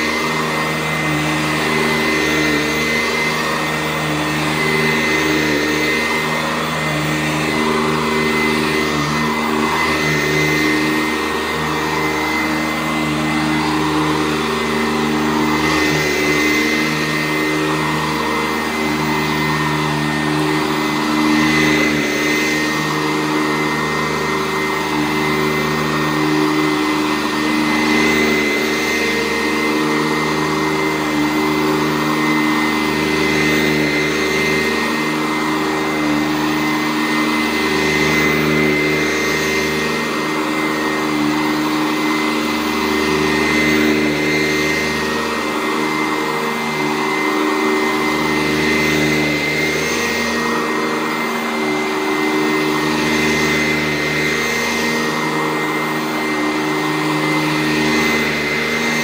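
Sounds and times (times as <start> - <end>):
upright vacuum cleaner running: 0.0 - 59.0.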